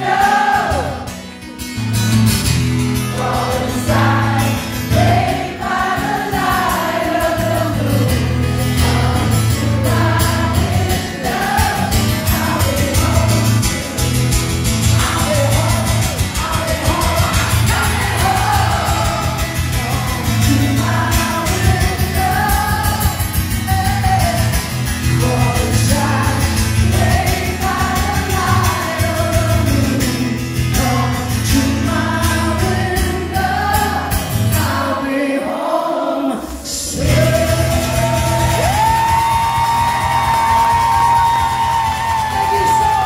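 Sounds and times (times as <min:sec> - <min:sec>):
steady bass: 0:00.0 - 0:34.7, 0:36.8 - 0:43.0
live band with person singing: 0:00.0 - 0:43.0.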